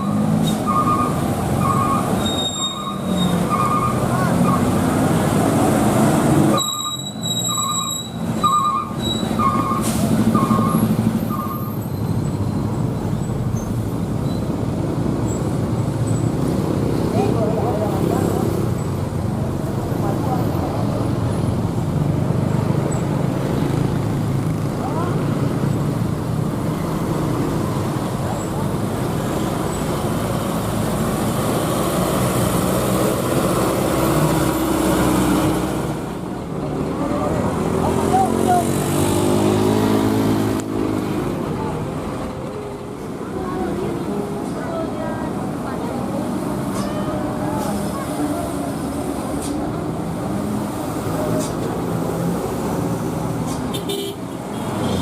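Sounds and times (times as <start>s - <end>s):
diesel truck engines rumbling: 0.0s - 55.0s
traffic noise: 0.0s - 55.0s.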